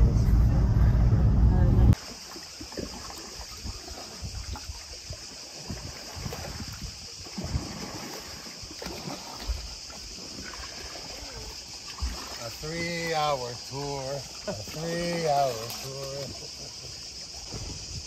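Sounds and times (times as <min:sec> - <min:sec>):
water lapping against boat hull: 0:01.9 - 0:18.0.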